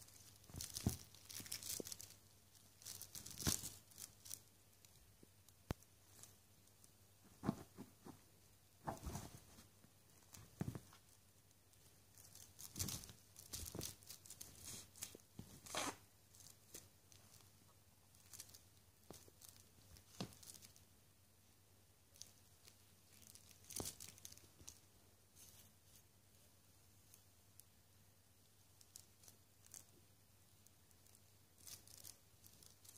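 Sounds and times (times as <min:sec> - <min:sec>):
toy rustling on fleece blanket: 0:00.0 - 0:05.0, 0:05.8 - 0:17.5, 0:18.1 - 0:20.8, 0:22.1 - 0:27.7, 0:28.8 - 0:29.9, 0:30.6 - 0:32.9.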